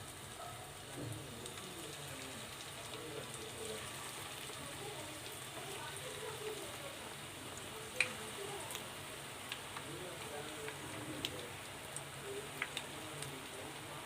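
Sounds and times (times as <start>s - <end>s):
hot oil sizzling: 0.0s - 14.0s.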